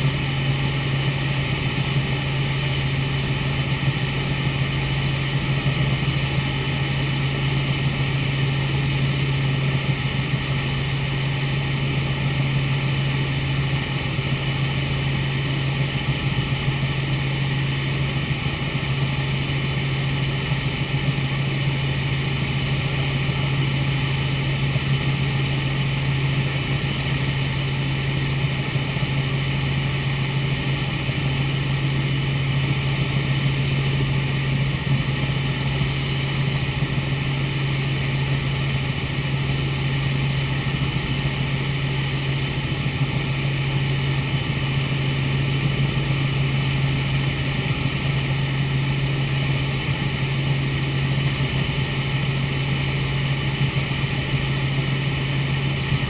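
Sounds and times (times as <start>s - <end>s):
helicopter engine and rotors drone: 0.0s - 56.0s.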